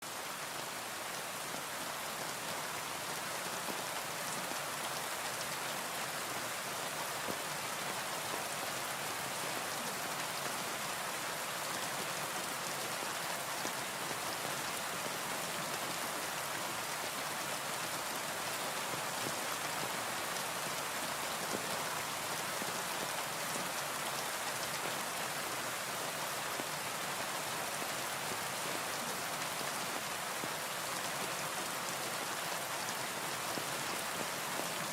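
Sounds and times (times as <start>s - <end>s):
rain on a window: 0.0s - 34.9s.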